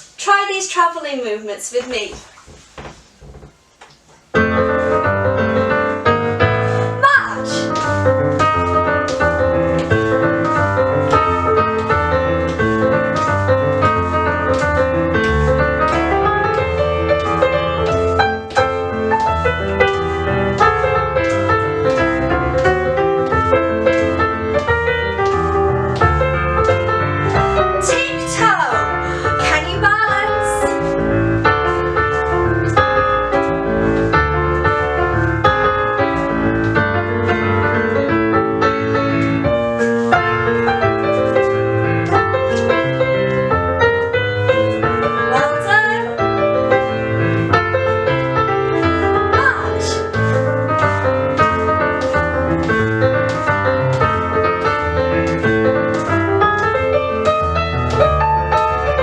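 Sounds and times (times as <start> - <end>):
upbeat piano music: 4.3 - 59.0.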